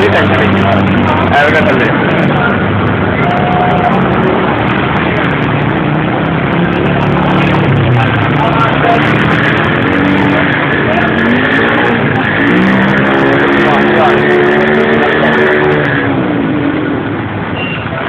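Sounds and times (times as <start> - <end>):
faint voices: 0.0 - 17.0
vehicle engines running: 0.0 - 18.0.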